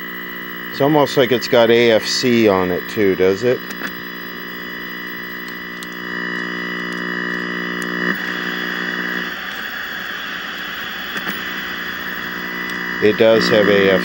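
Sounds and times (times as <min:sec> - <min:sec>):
static hiss: 0:00.0 - 0:14.0
tv speaker buzz: 0:00.0 - 0:14.0.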